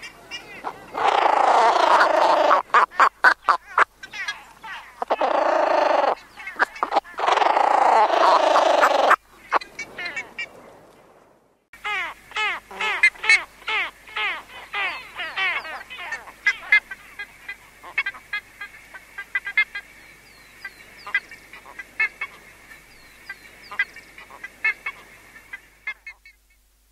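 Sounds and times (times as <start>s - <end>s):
ibises calling: 0.0s - 10.6s, 11.8s - 26.7s
faint steady background tone: 0.0s - 26.9s.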